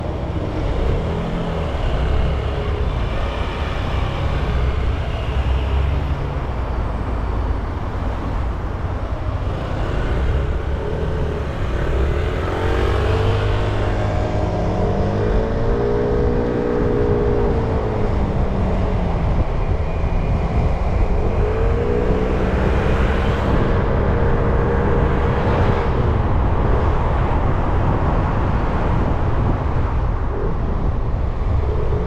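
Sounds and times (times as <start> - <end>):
wind noise: 0.0 - 32.0.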